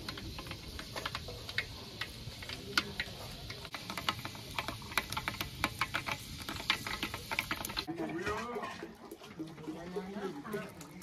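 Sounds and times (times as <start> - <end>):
hot oil frying and popping: 0.0 - 11.0.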